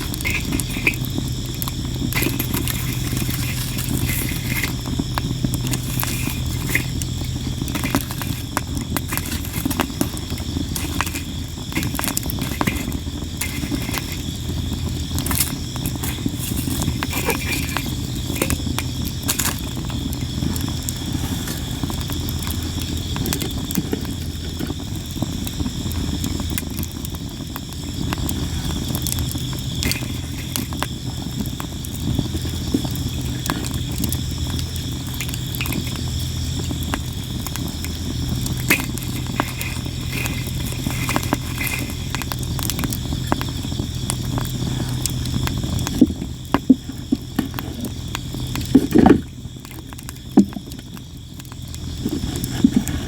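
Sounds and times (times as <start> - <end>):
campfire crackling and popping: 0.0 - 53.0
insects chirping: 0.0 - 53.0.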